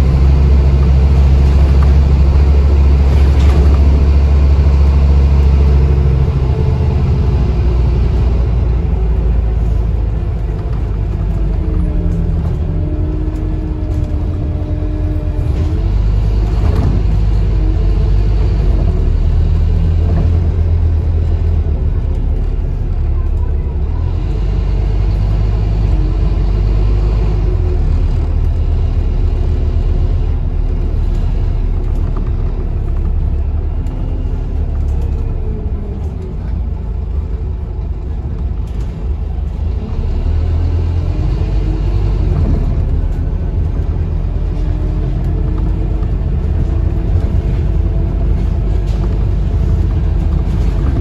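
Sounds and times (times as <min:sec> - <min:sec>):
bus engine rumble: 0:00.0 - 0:51.0
drivetrain whine: 0:00.0 - 0:51.0.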